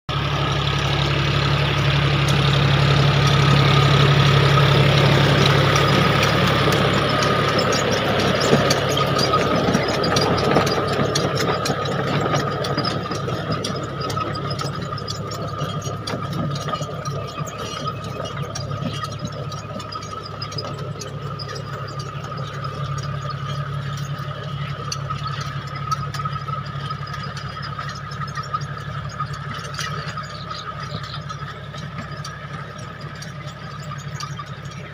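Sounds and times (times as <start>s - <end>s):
tractor diesel engine running: 0.0s - 34.9s
rotavator high whine: 0.1s - 34.9s.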